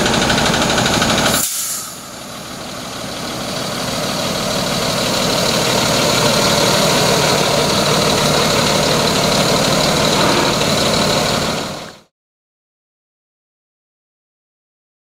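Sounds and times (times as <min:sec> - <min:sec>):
truck engine idling: 0:00.0 - 0:12.1.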